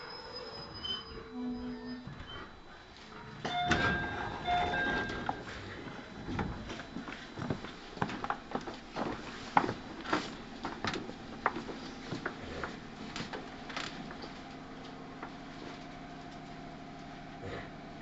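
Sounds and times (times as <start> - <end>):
train equipment hum: 0.0 - 18.0.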